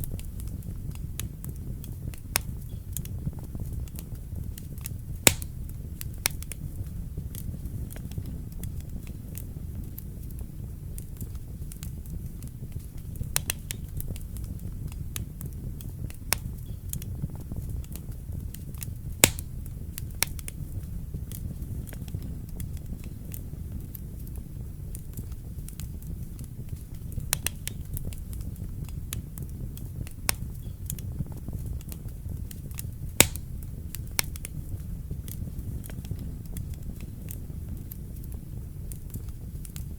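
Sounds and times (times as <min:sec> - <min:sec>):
fire flames rumbling: 0:00.0 - 0:39.9
wood fire crackling and popping: 0:00.0 - 0:39.9.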